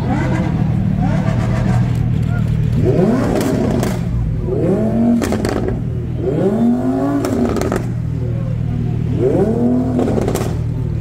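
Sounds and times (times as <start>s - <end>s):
exhaust crackles: 0.0s - 11.0s
sports car engine revving: 0.0s - 11.0s.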